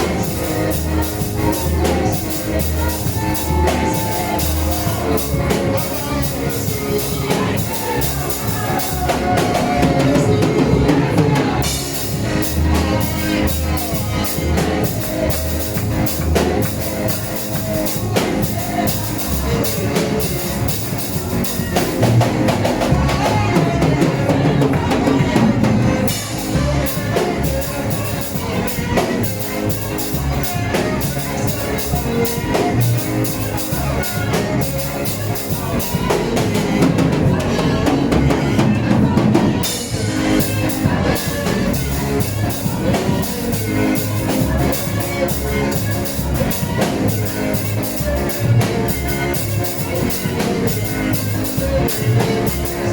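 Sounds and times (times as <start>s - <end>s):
band music: 0.0s - 52.9s
bass line: 0.0s - 52.9s
drum kit beat: 0.0s - 52.9s.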